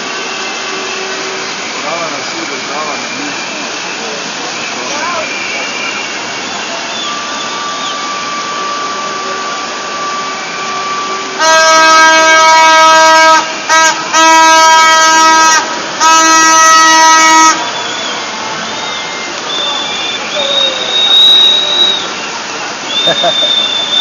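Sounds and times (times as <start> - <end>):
horn blasts: 0.0 - 24.0.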